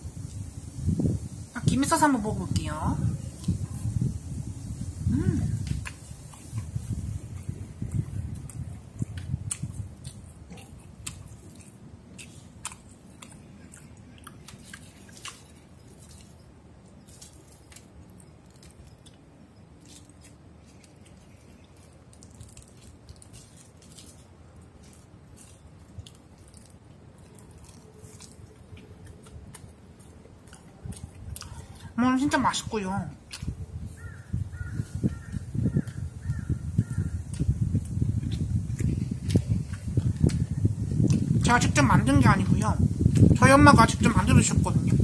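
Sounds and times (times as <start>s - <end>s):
chewing crisp seaweed and rice: 0.0s - 43.4s.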